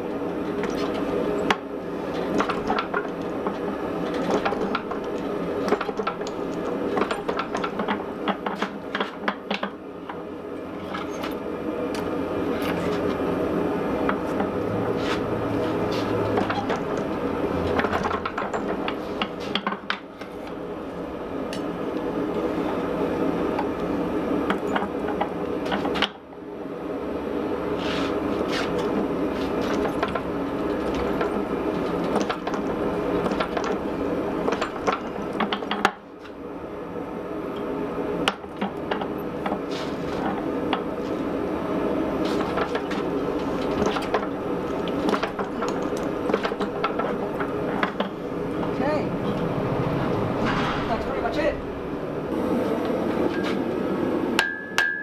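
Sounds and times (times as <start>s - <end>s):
forging press drone: 0.0s - 55.0s.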